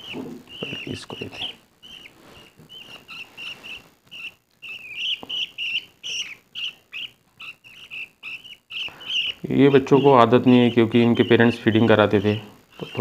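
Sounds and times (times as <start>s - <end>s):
bird chicks chirping: 0.0s - 13.0s.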